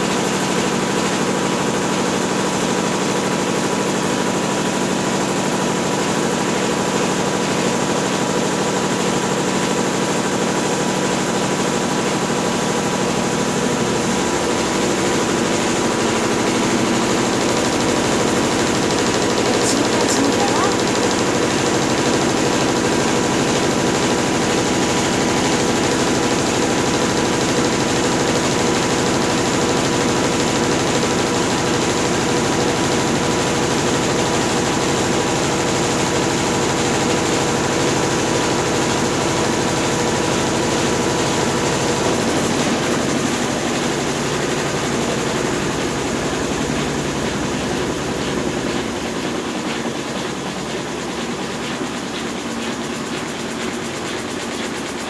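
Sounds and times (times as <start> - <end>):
churning laundry load: 0.0 - 55.0
washing machine motor hum: 0.0 - 55.0.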